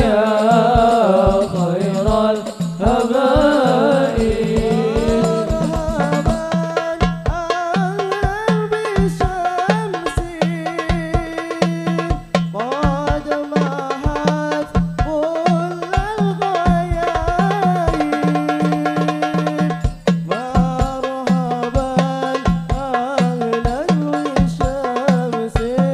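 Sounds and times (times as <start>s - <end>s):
devotional singing: 0.0s - 25.9s
frame drums: 0.0s - 25.9s.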